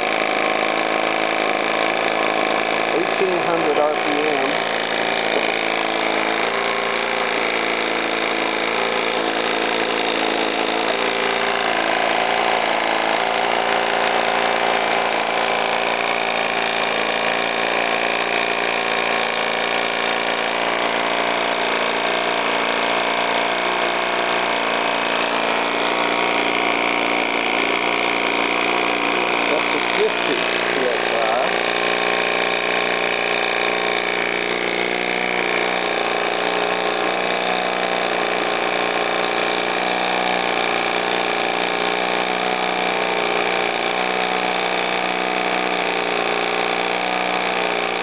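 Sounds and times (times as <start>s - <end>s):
model steam engine running: 0.0s - 48.0s.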